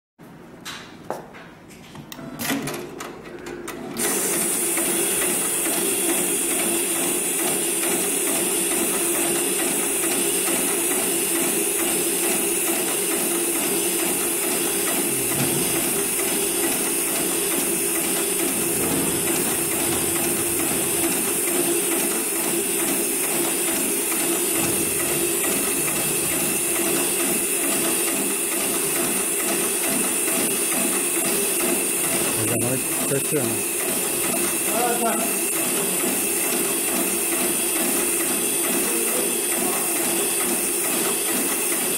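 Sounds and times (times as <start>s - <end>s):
sewing machine mechanical chatter: 3.9s - 41.9s.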